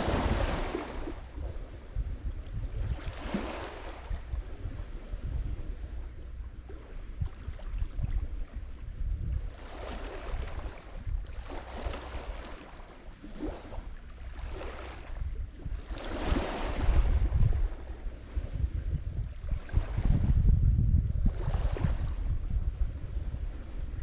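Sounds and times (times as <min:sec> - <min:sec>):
waves breaking on shore: 0:00.0 - 0:20.4, 0:21.2 - 0:24.0
wind rumble on microphone: 0:00.0 - 0:24.0.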